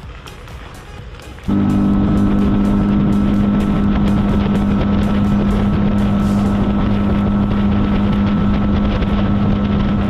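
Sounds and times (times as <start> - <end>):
outboard motor running: 1.5 - 10.0
wind buffeting microphone: 1.5 - 10.0.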